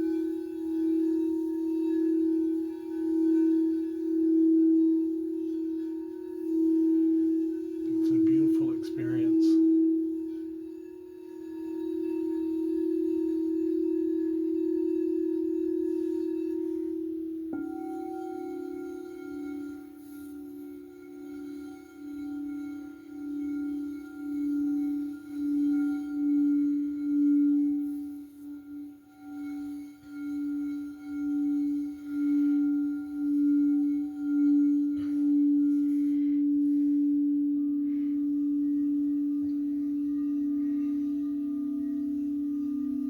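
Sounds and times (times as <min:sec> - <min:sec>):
singing bowl tone: 0:00.0 - 0:43.0.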